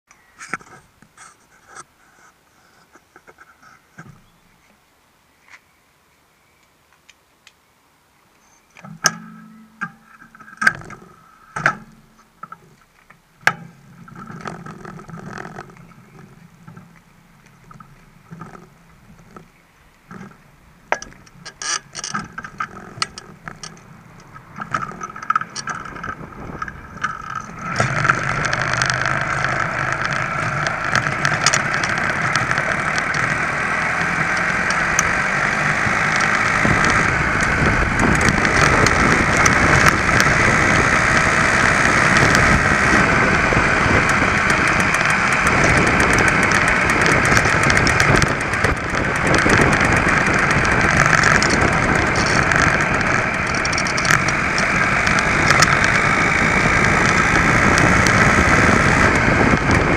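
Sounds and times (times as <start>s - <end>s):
moped clicks and rattles: 8.7s - 59.9s
two-stroke moped engine running: 8.8s - 59.9s.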